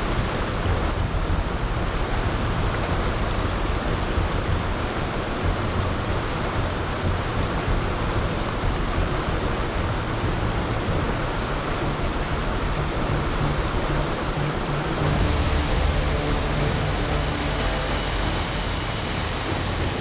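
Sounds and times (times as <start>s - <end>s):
loud steady rushing noise: 0.0s - 20.0s
uneven low rumble: 0.0s - 20.0s.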